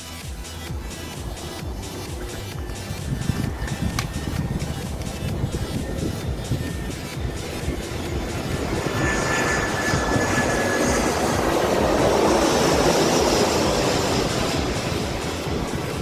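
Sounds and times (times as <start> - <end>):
jet engines passing: 0.0 - 16.0.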